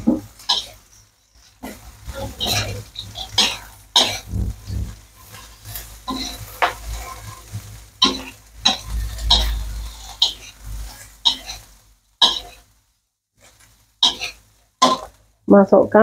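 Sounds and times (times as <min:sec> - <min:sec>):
metal spatula scraping a wok: 0:00.0 - 0:12.8, 0:13.4 - 0:15.2
oil sizzling: 0:00.0 - 0:16.0.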